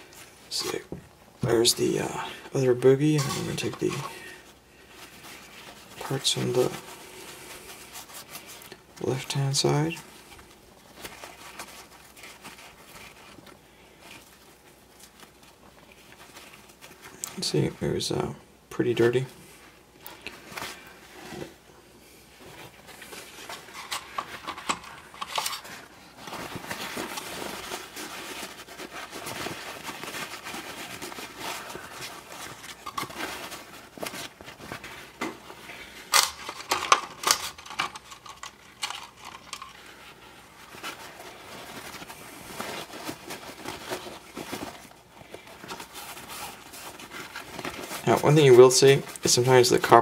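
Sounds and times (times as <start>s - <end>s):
paper towel rustling: 0.0s - 50.0s
paper crackles: 1.5s - 17.5s, 22.4s - 50.0s.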